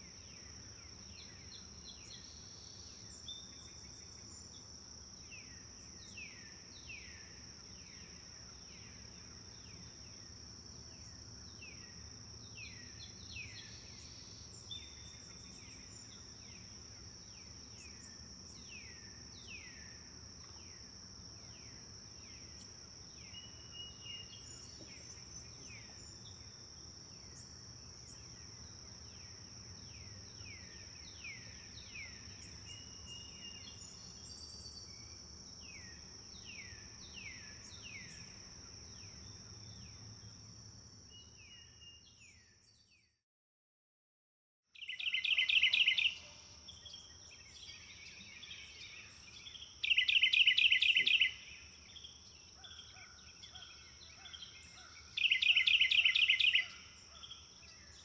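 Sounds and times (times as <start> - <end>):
insect trill: 0.0 - 42.8, 44.8 - 58.0.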